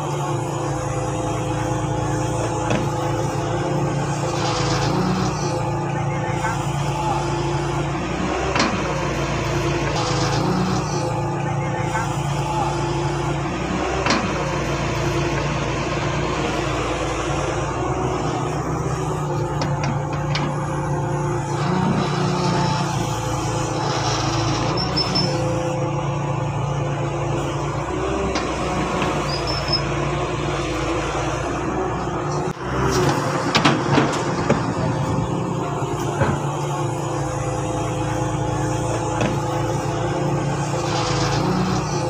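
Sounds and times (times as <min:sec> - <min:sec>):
excavator diesel engine: 0:00.0 - 0:42.0.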